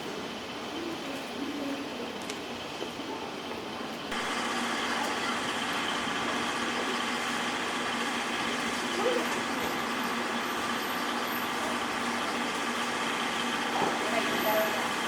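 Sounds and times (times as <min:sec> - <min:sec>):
constant hum: 0:00.0 - 0:15.0
train coach rumble: 0:00.0 - 0:15.0.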